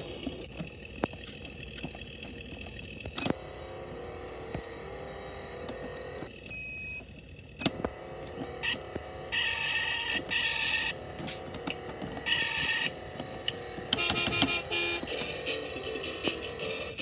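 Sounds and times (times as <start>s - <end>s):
electronic toy car engine sounds: 0.0s - 17.0s.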